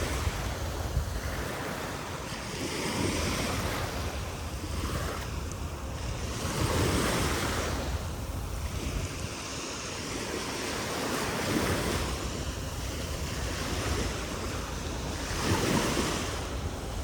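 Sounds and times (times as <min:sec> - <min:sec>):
sea waves breaking on beach: 0:00.0 - 0:17.0
wind on microphone: 0:00.0 - 0:17.0.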